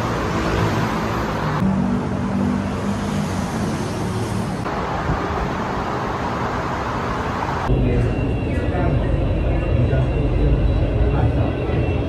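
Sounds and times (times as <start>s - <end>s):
highway traffic noise: 0.0s - 12.0s.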